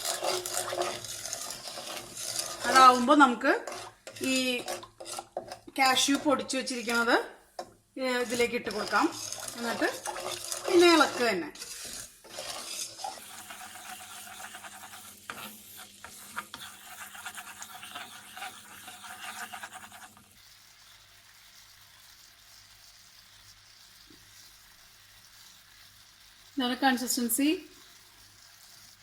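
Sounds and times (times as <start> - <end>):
soft sizzle: 0.0 - 29.0
utensil scraping a pan: 0.0 - 29.0.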